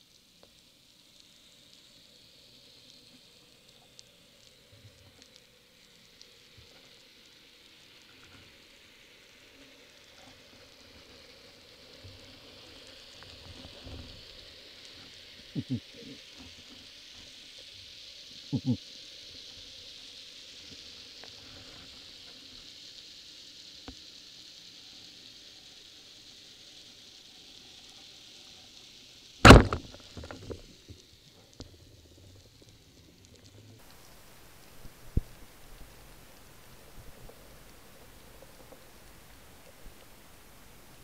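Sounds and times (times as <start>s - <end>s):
underwater crackling hiss: 0.0s - 41.0s.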